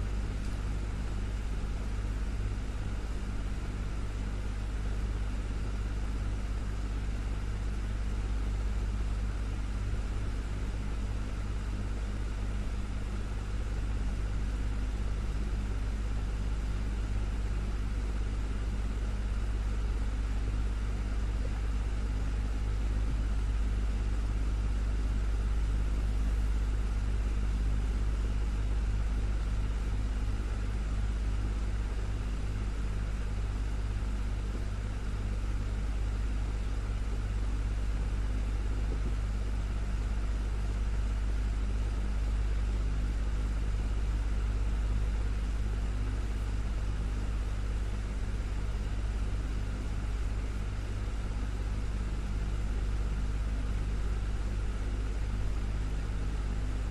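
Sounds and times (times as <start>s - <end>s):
desktop fan running: 0.0s - 56.9s.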